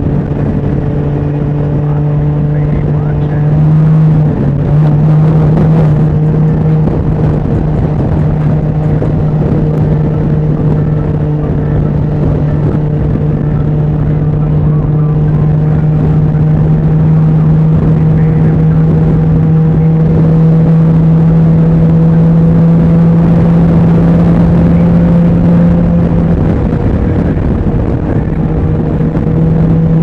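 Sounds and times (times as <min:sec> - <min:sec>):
engine droning at cruise: 0:00.0 - 0:30.0.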